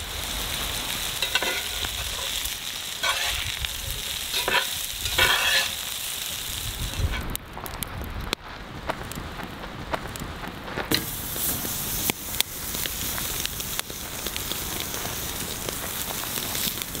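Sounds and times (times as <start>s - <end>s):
cooking sizzle: 0.0s - 7.8s, 10.9s - 17.0s
campfire crackling and popping: 0.0s - 17.0s.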